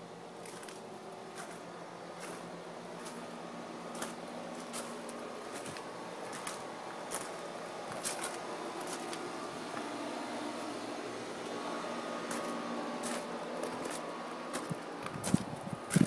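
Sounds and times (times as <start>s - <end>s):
steady mechanical hum: 0.0s - 16.0s
footsteps on gravel: 0.4s - 16.0s.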